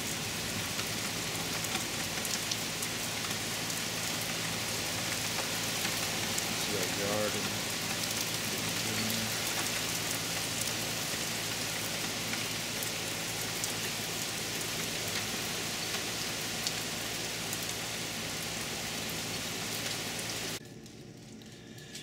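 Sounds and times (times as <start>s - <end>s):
heavy rain on wooden deck: 0.0s - 20.6s.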